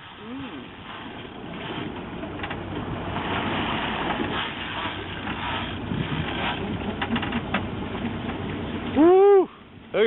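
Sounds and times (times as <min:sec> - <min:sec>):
boat engine running: 0:00.0 - 0:10.0
constant rushing noise: 0:00.0 - 0:10.0.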